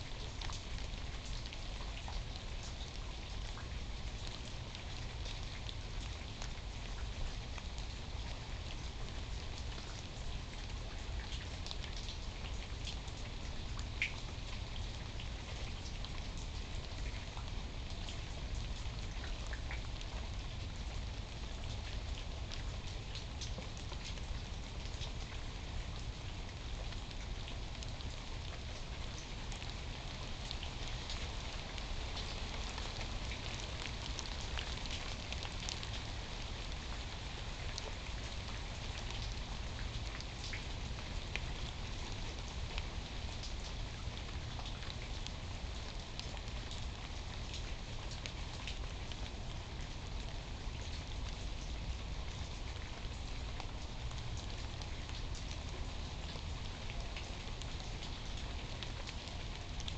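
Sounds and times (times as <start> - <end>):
rain falling: 0.0 - 59.9
raindrops ticking: 0.0 - 59.9.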